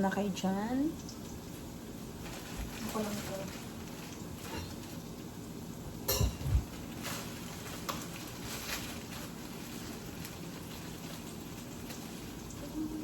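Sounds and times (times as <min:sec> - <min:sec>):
meat sizzling in a pan: 0:01.0 - 0:13.0.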